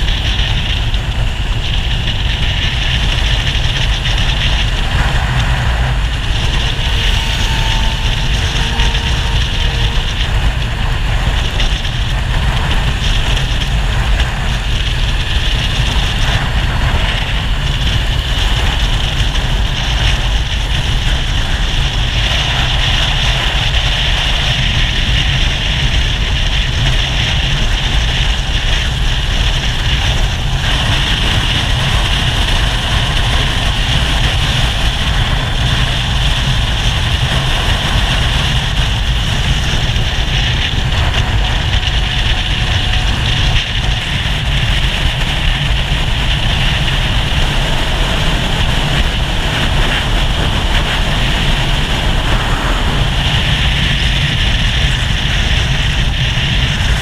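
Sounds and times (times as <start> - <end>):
motorcycle engine cruising: 0.0 - 57.0
wind rush over microphone: 0.0 - 57.0.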